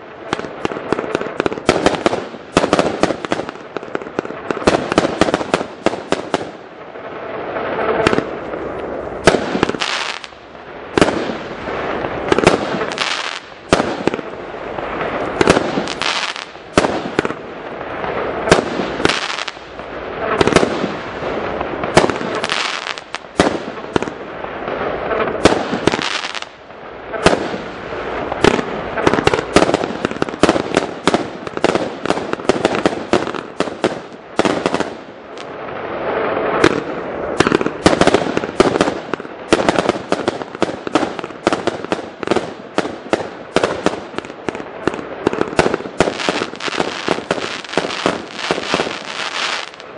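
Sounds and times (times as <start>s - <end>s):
fireworks bangs: 0.0s - 49.9s
fireworks display noise: 0.0s - 49.9s.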